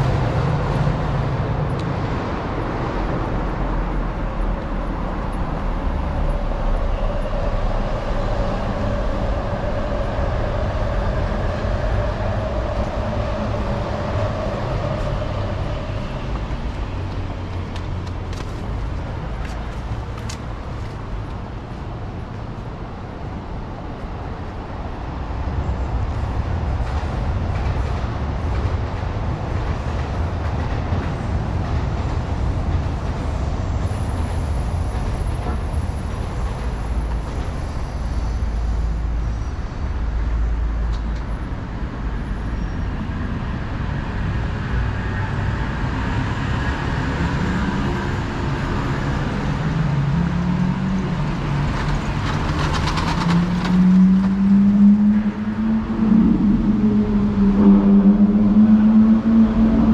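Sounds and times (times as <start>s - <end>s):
low rumble of city traffic: 0.0s - 59.9s.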